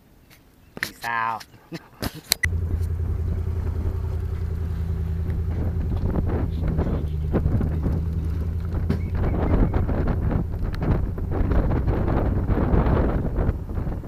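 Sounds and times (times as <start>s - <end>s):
vehicle engine droning: 2.4s - 14.0s
wind buffeting microphone: 2.5s - 14.0s.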